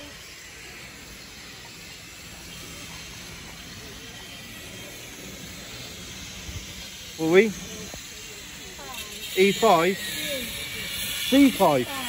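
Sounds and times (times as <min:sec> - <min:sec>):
faint voices: 0:00.0 - 0:12.0
steam locomotive hissing: 0:00.0 - 0:12.0.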